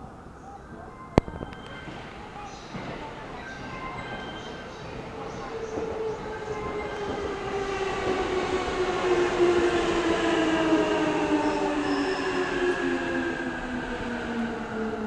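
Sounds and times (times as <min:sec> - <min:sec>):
train wheels rumbling on rails: 0:00.7 - 0:15.0.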